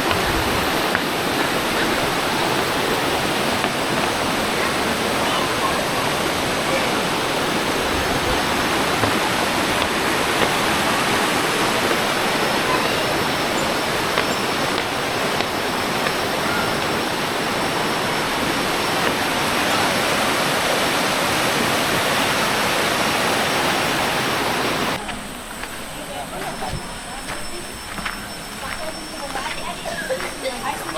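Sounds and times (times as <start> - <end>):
river rushing over cascades: 0.0 - 26.1.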